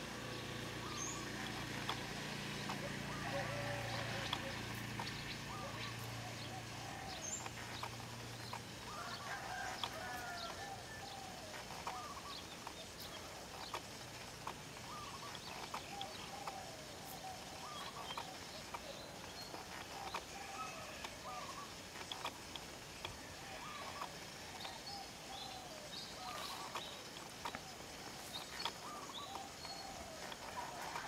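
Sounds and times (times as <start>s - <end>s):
birds calling: 0.0s - 31.0s
faint sharp clicks: 0.9s - 31.0s.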